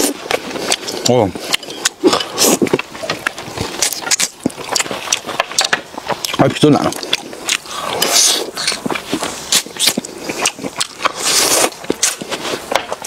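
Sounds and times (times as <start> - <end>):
chewing meat off a bone: 0.0 - 13.0.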